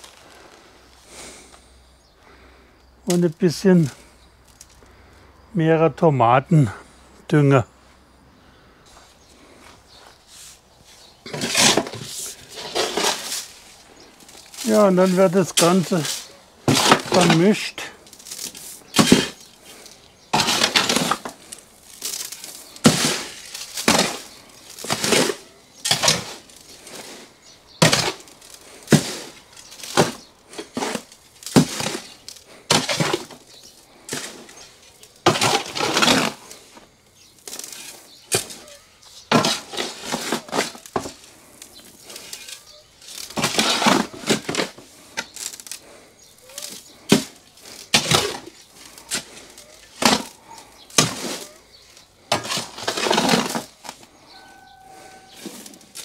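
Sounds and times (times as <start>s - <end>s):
shovel scraping soil in wheelbarrow: 9.9s - 56.0s.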